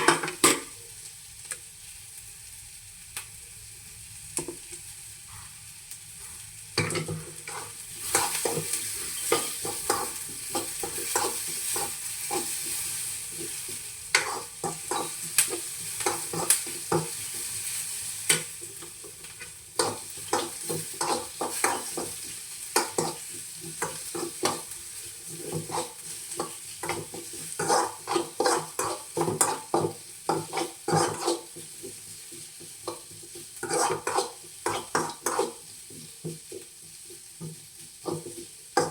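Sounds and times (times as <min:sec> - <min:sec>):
onions sizzling in hot oil: 0:00.0 - 0:38.9
spatula scraping a pan: 0:06.2 - 0:38.9.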